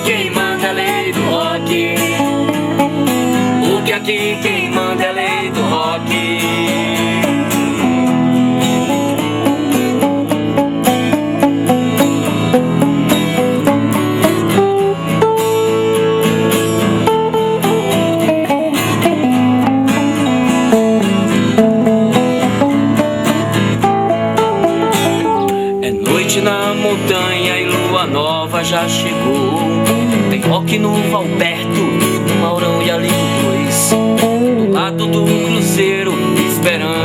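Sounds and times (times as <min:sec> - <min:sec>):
electric guitar: 0:00.0 - 0:37.0
instrumental rock band: 0:00.0 - 0:37.0.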